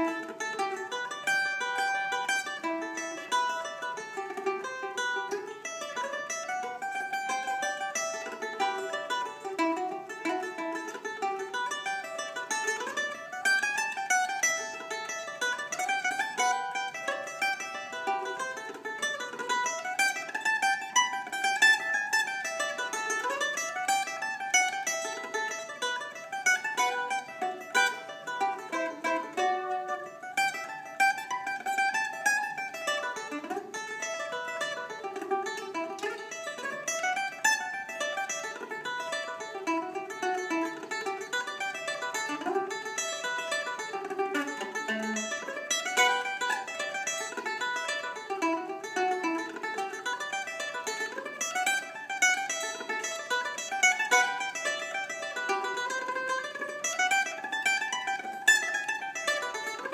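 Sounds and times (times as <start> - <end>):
plucked string instrument tune: 0.0 - 59.9.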